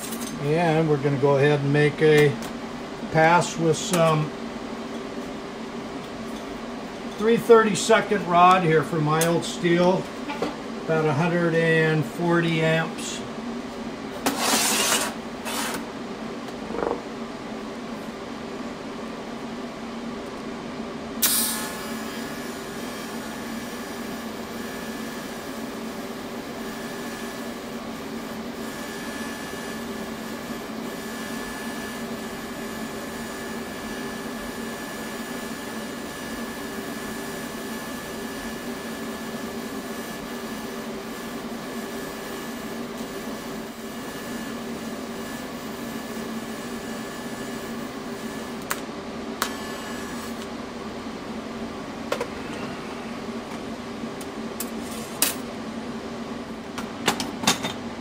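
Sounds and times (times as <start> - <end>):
welding arc buzzing hiss: 0.0 - 18.2, 21.2 - 51.2, 52.1 - 55.5.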